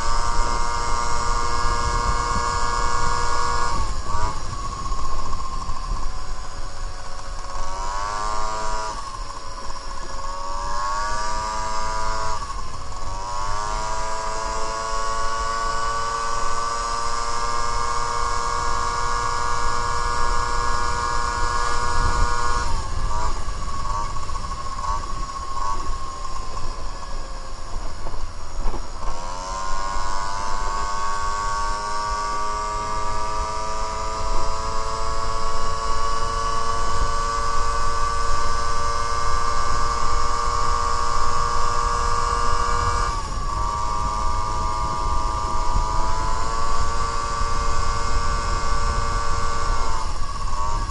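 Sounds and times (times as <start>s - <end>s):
moped engine revving: 0.0s - 50.9s
wind rumble: 0.0s - 50.9s.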